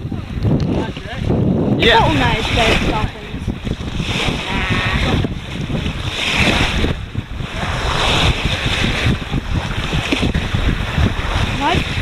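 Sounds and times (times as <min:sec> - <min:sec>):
sea water rushing past hull: 0:00.0 - 0:12.0
wind buffeting microphone: 0:00.0 - 0:12.0.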